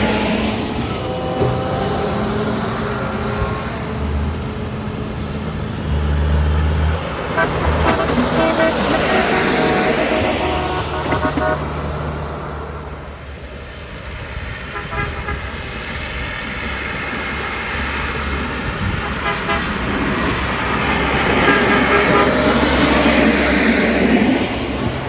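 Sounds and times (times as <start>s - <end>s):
locomotive air horn: 0.0s - 13.2s, 14.7s - 16.0s, 16.8s - 25.0s.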